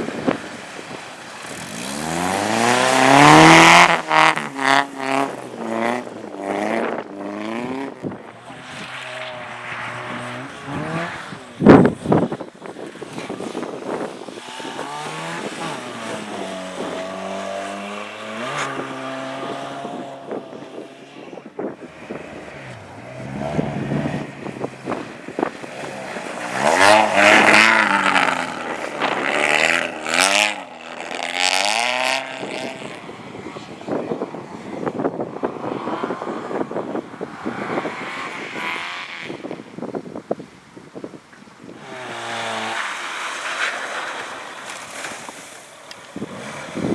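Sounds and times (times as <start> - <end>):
race car engines revving: 0.0 - 46.9.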